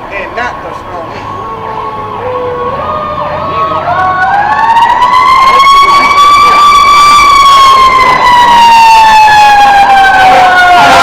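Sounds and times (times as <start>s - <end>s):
emergency siren wailing: 0.2s - 11.0s
fast cycling siren tone: 1.3s - 11.0s.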